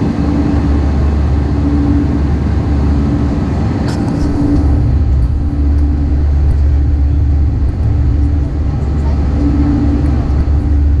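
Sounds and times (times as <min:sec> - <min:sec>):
constant hum: 0:00.0 - 0:11.0
low engine drone: 0:00.0 - 0:11.0.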